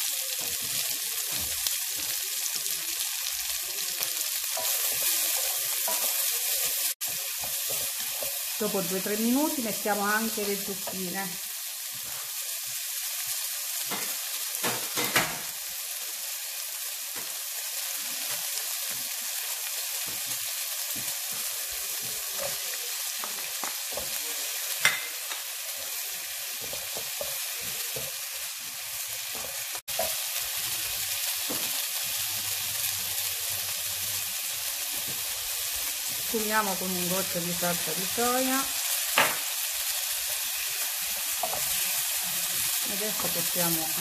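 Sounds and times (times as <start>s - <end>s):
vegetables sizzling in a frying pan: 0.0s - 44.0s.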